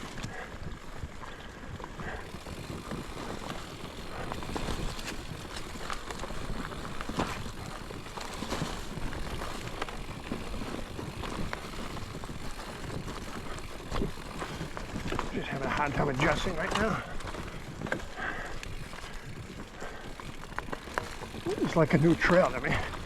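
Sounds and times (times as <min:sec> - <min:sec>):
bike rattling over bumps: 0:00.0 - 0:23.0
bike tyres rolling on dirt: 0:00.0 - 0:23.0.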